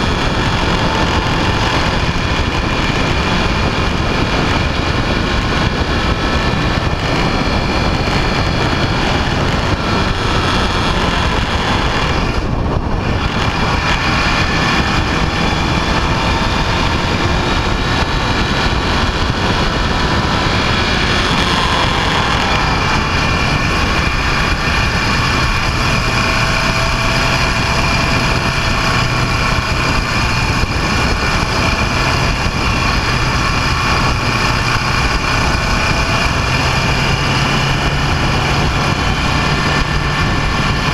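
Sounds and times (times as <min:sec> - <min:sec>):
loud rushing road noise: 0:00.0 - 0:40.9
vehicle engine running: 0:00.0 - 0:40.9.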